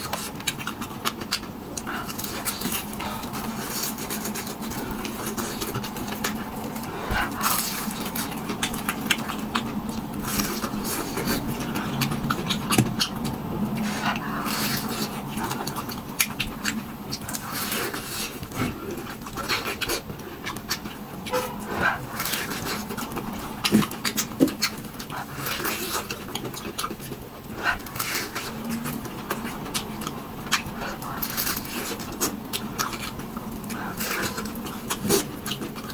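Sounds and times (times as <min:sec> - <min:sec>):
chewing and crunching crisp food: 0:00.0 - 0:35.9.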